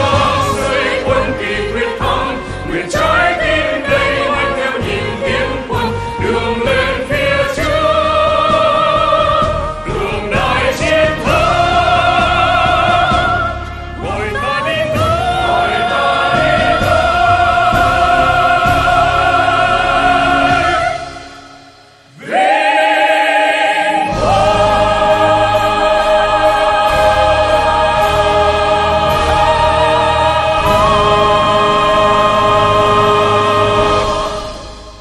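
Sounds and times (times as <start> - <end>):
choir singing: 0.0 - 35.0
orchestral accompaniment: 0.0 - 35.0.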